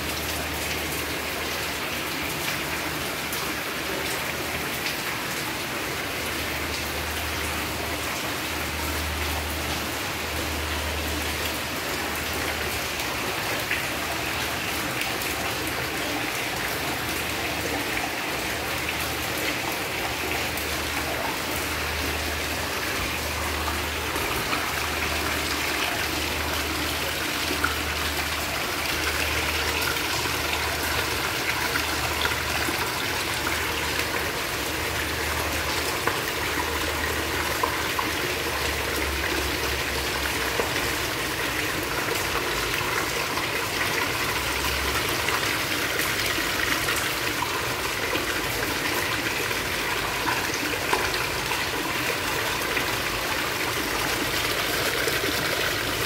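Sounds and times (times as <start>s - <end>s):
heavy rain: 0.0s - 56.0s
water pouring from drainpipe: 0.0s - 56.0s.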